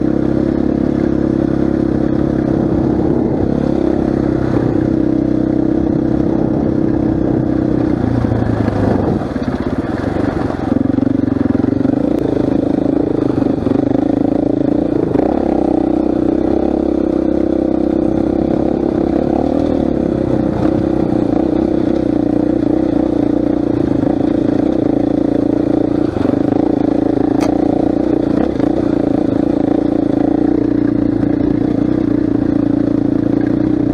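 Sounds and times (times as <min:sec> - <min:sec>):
dirt bike engine running: 0:00.0 - 0:33.9.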